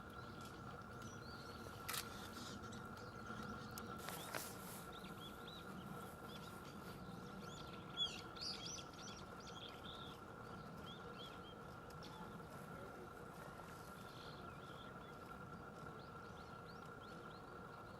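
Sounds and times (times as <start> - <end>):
faint steady hum: 0.0 - 17.9
small birds chirping: 0.0 - 17.9.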